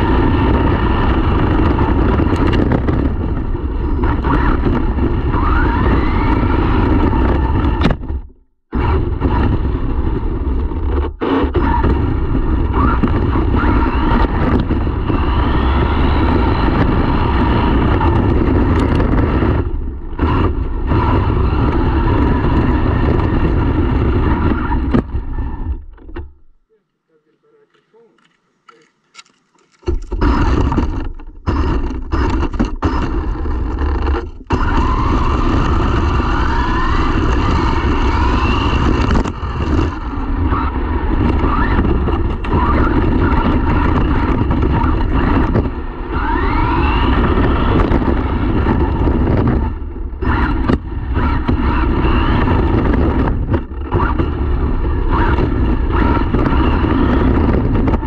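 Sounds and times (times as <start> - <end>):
electric motor whine: 0.0 - 26.4, 29.8 - 58.0.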